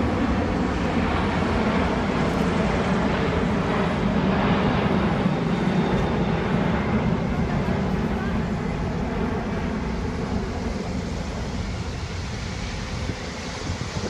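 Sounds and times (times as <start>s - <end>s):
aircraft engines in flight: 0.0s - 14.0s.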